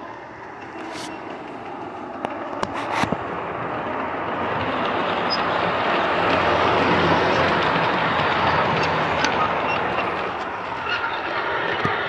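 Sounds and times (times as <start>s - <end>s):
model train rolling on track: 0.0s - 12.0s
train motor humming: 0.0s - 12.0s.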